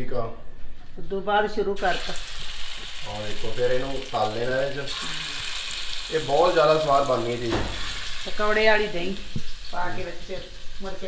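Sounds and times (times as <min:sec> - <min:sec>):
batter sizzling in hot oil: 0:01.8 - 0:11.0.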